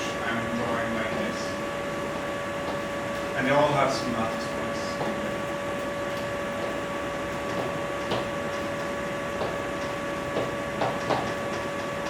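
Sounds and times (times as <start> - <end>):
constant hum tone: 0.0 - 12.0.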